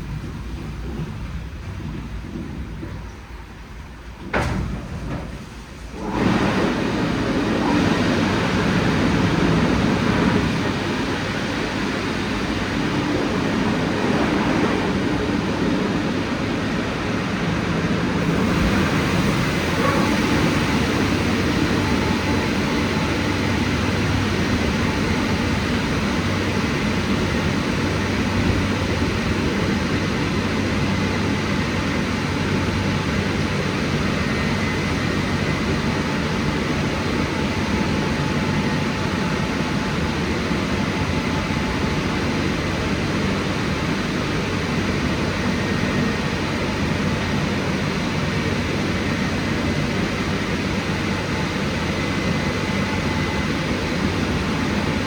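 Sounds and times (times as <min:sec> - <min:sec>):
car wash rushing noise: 0:04.8 - 0:55.0.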